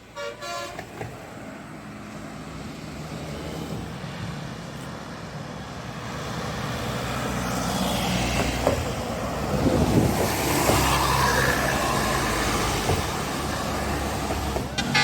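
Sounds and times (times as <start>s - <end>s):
bus passing by: 0.0s - 15.0s
road traffic: 0.0s - 15.0s.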